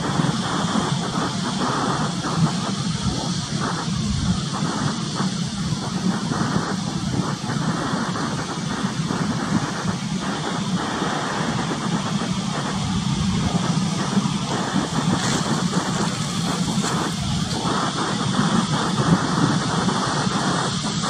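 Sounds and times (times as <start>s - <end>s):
boat engine droning: 0.0s - 21.0s
choppy sea: 0.0s - 21.0s
wind: 0.0s - 21.0s.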